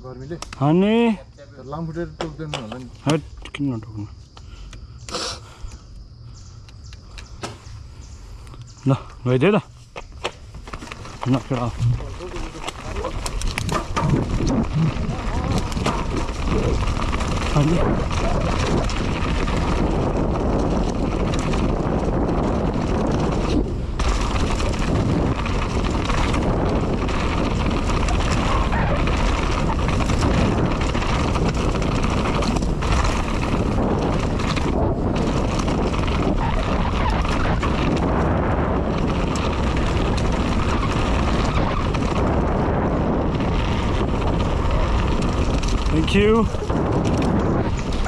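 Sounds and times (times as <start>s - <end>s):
bike tyres on dirt and rock: 0.0s - 48.0s
wind buffeting microphone: 0.0s - 48.0s
bike chain and frame rattling: 8.8s - 48.0s.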